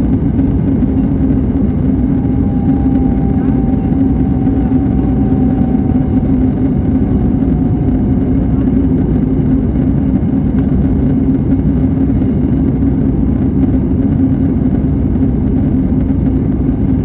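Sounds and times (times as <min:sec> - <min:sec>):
jet engine cabin drone: 0:00.0 - 0:17.0.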